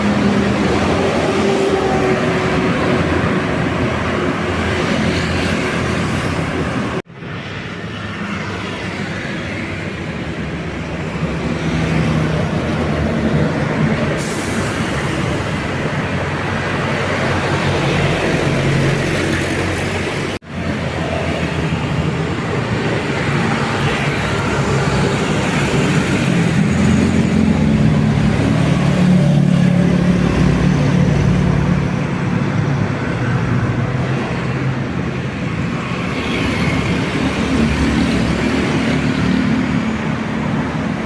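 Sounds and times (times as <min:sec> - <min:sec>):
road traffic rushing: 0:00.0 - 0:41.0.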